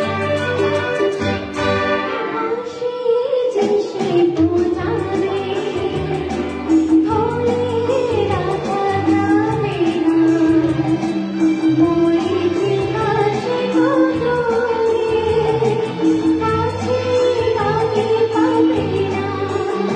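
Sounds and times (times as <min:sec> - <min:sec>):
instrumental accompaniment: 0:00.0 - 0:19.9
woman singing: 0:02.1 - 0:19.9.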